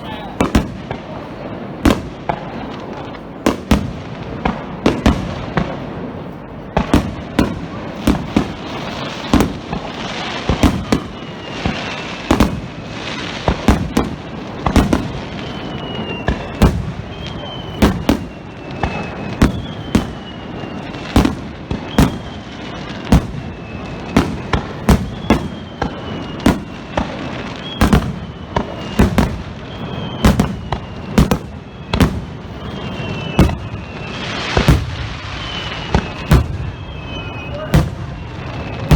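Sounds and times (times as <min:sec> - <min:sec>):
faint high firework whistles: 0:00.0 - 0:38.9.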